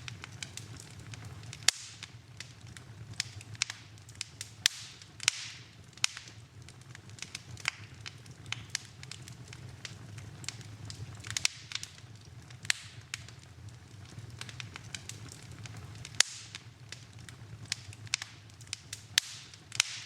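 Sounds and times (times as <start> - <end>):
low rumble of flame: 0.0 - 20.0
sharp pops of fire: 0.0 - 20.0
wood fire crackling: 0.0 - 20.0.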